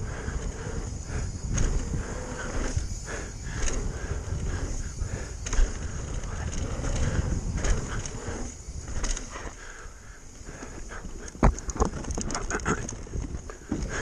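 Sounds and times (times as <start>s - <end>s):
bike clattering over bumps: 0.0s - 14.0s
tyre and trail noise: 0.0s - 14.0s
wind rumble on microphone: 0.0s - 14.0s.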